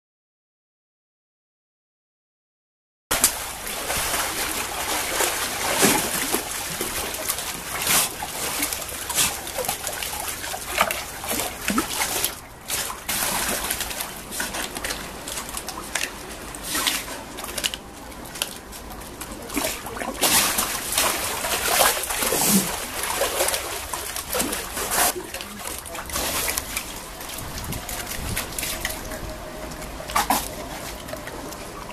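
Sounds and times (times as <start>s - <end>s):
water splashing in a pool: 3.1s - 31.9s.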